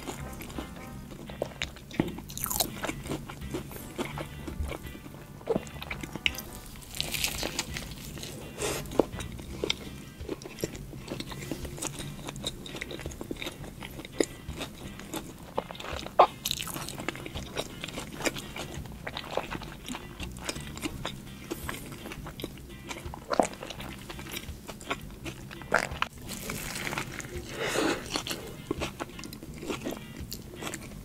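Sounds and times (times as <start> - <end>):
crunchy chewing: 0.0 - 31.0.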